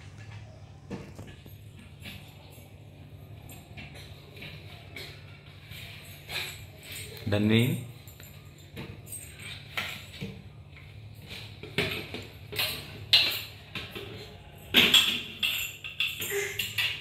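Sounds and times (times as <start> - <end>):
toy ball and bottles clattering: 0.1 - 17.0.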